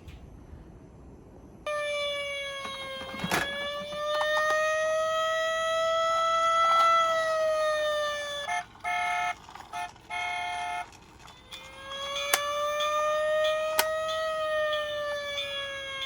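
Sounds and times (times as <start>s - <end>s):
toy electronic siren wail: 1.7s - 16.0s.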